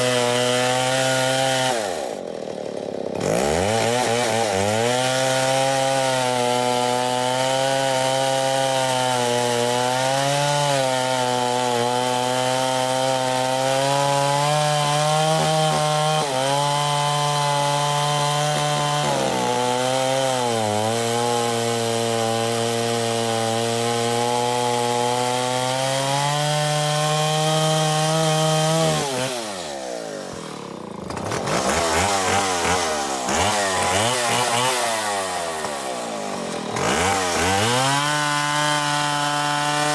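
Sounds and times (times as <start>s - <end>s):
chainsaw revving high: 0.0s - 39.9s.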